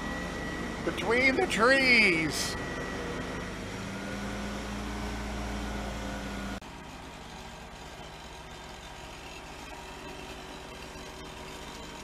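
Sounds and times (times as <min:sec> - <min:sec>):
low engine drone: 0:00.0 - 0:12.0
truck engine humming: 0:00.0 - 0:12.0.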